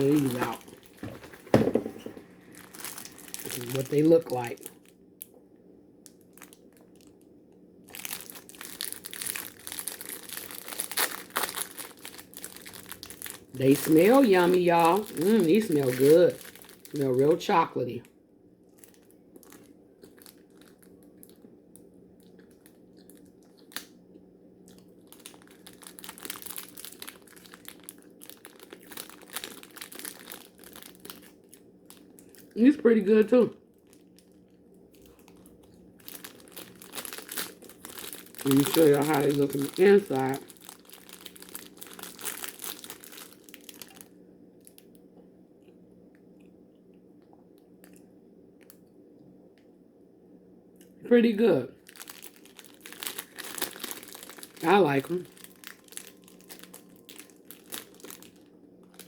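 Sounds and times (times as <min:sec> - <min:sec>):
plastic wrapper crinkling: 0:00.0 - 0:45.1, 0:51.8 - 0:59.0
faint steady hum: 0:00.0 - 0:59.0.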